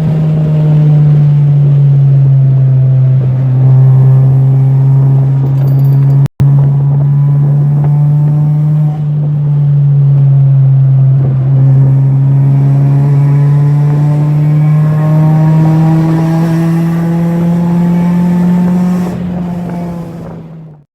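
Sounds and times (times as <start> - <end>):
car engine droning with rising revs: 0.0 - 5.7, 6.4 - 20.8.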